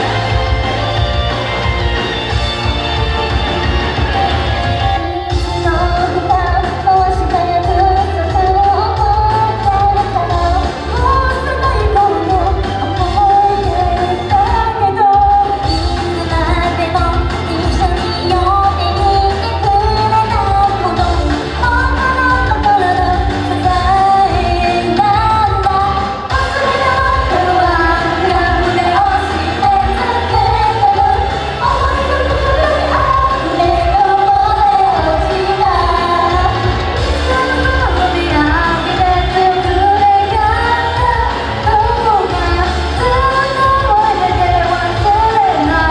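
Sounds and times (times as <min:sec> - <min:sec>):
pop song with heavy bass beat: 0:00.0 - 0:45.9
female vocals: 0:04.9 - 0:45.9.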